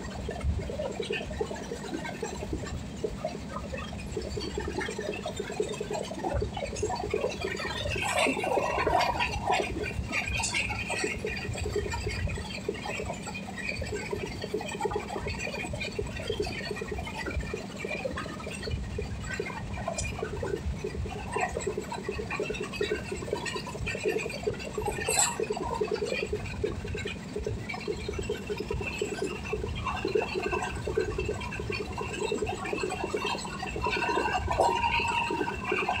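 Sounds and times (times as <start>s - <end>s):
steady whine: 0.0s - 36.0s
wheels rattling on rails: 0.0s - 36.0s.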